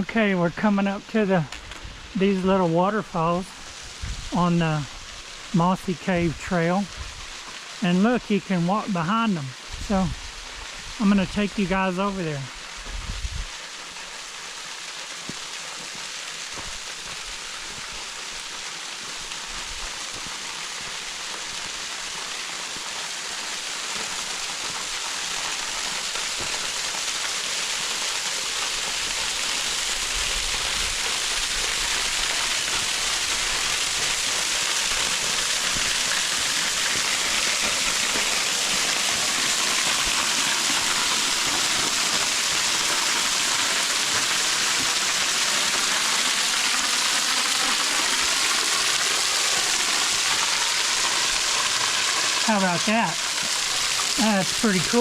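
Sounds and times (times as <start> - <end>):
small waterfalls splashing: 0.0 - 55.0.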